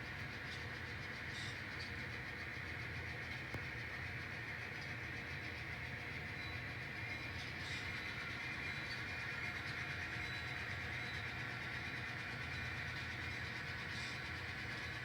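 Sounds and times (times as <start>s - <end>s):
model locomotive whirring: 0.0s - 15.0s.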